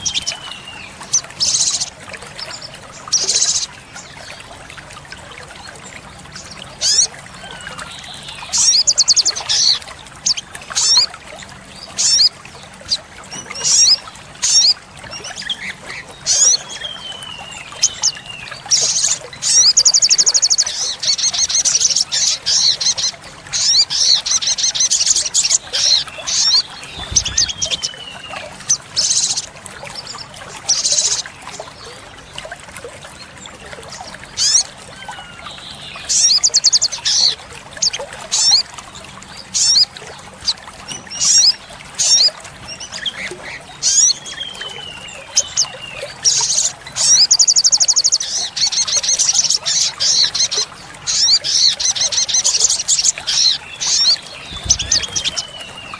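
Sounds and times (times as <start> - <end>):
bird chirping and trilling: 0.0 - 4.5, 6.3 - 11.1, 11.8 - 31.9, 33.9 - 38.7, 39.3 - 55.9.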